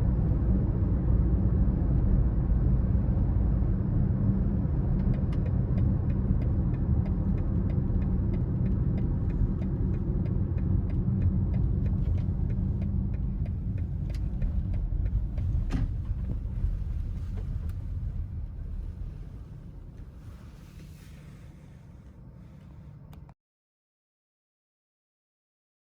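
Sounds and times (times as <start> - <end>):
diesel engine and road rumble: 0.0 - 23.4.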